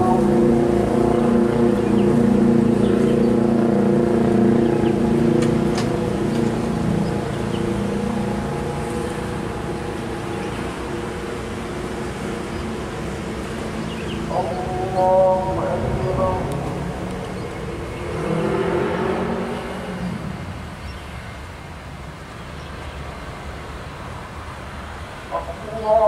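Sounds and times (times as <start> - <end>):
steady engine hum: 0.0 - 26.0.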